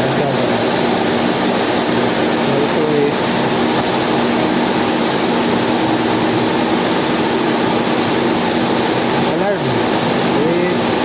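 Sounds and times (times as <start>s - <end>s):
loud steady rushing noise: 0.0s - 11.0s.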